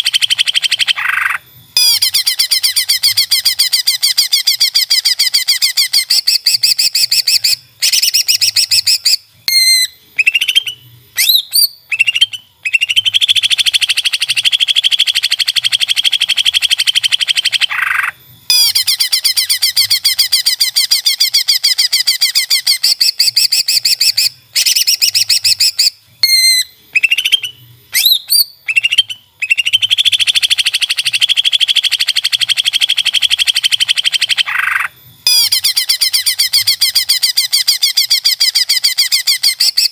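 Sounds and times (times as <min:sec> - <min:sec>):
bird song trills and whistles: 0:00.0 - 0:39.9.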